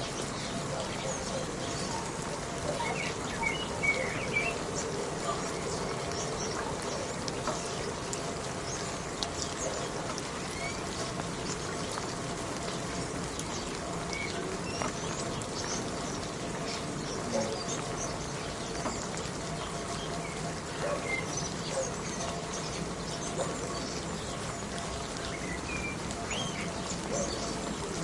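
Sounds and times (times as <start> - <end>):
small birds chirping: 0.0 - 28.0
steady rain falling: 0.0 - 28.0.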